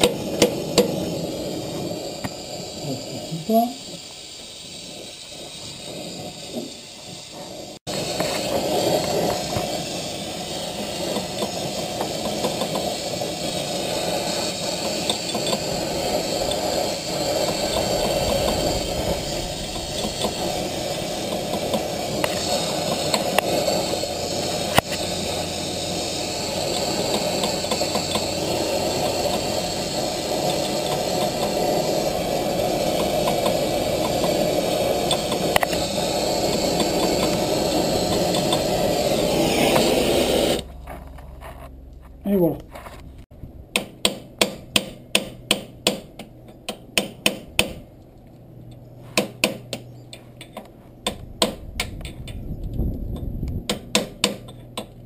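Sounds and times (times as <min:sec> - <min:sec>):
gas torch flame burning: 0:00.0 - 0:41.2, 0:42.9 - 0:55.0.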